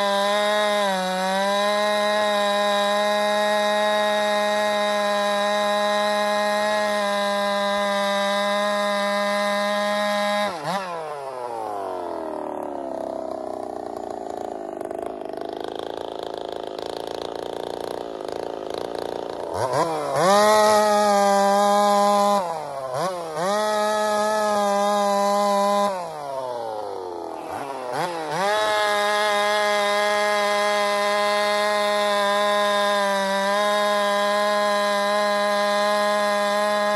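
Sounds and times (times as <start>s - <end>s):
chainsaw revving and cutting log: 0.0s - 36.9s.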